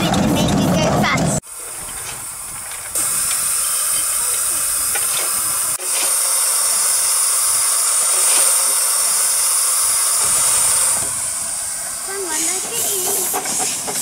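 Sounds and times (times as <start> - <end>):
steam hissing loudly: 1.4 - 14.0.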